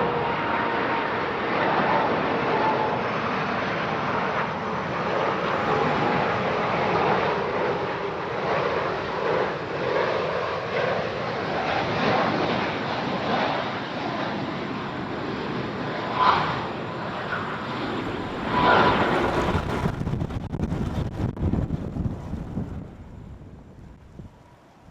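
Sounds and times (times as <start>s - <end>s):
faint engine whine: 0.0s - 24.9s
jet engines rushing: 0.0s - 24.9s.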